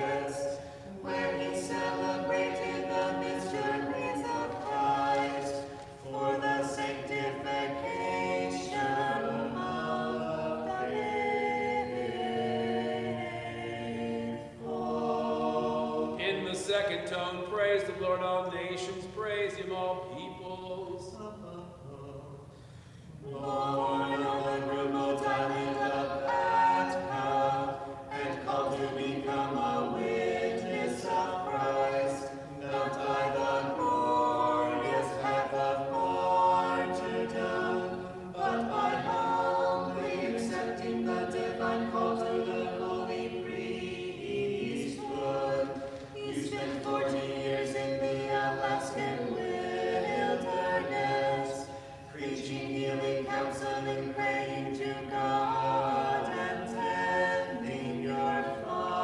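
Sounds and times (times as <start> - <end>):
choir singing a hymn a cappella: 0.0 - 59.0.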